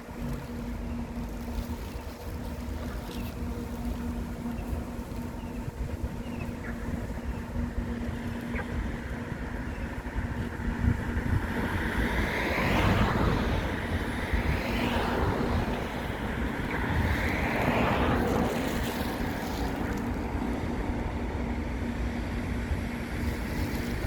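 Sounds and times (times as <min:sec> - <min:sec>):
faint constant hum: 0:00.0 - 0:24.0
road traffic rumble: 0:00.0 - 0:24.0
vehicles passing by: 0:00.0 - 0:24.0.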